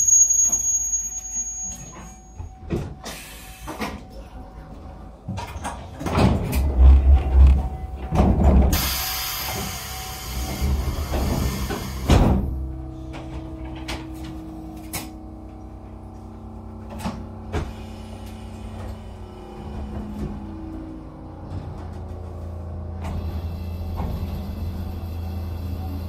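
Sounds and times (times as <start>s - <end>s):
railcar humming: 0.0s - 26.0s.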